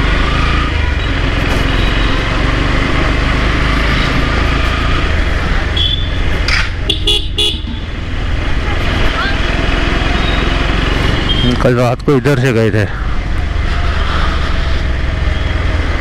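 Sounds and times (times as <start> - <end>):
road and wind rumble: 0.0 - 16.0
vehicle engine running: 0.0 - 16.0.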